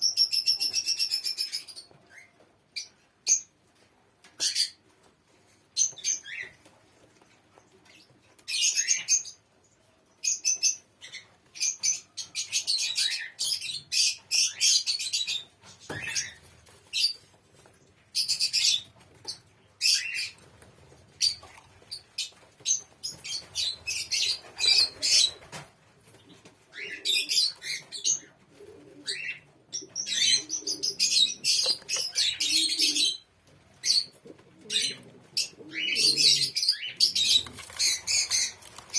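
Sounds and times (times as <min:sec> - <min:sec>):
doves chirping: 0:00.0 - 0:03.5, 0:05.5 - 0:38.9.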